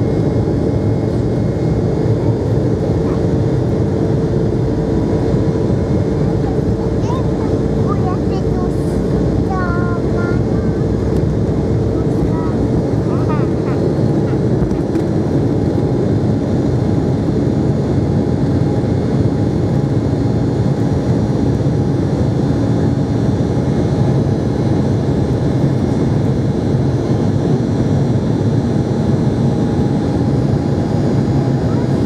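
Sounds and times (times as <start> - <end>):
faint steady engine whine: 0.0 - 32.0
jet engines at takeoff thrust: 0.0 - 32.0.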